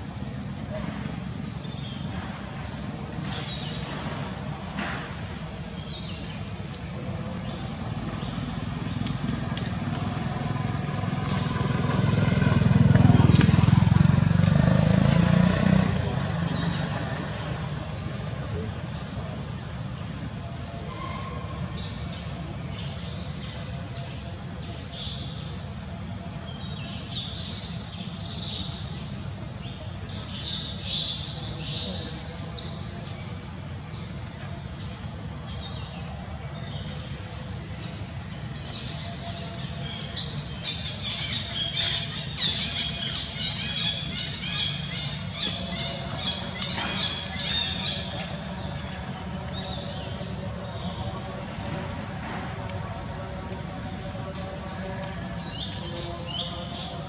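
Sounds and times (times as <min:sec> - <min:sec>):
birds chirping: 0:00.0 - 0:57.0
insects droning: 0:00.0 - 0:57.0.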